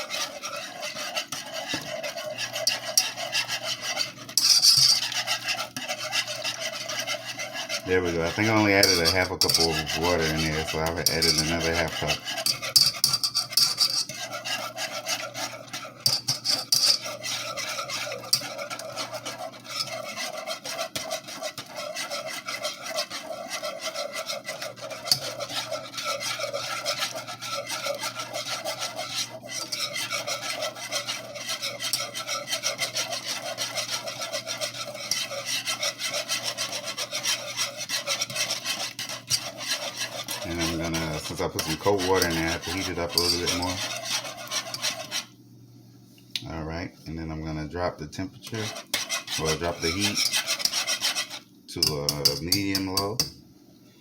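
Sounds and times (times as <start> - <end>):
utensil scraping saucepan: 0.0 - 45.4, 48.1 - 53.4.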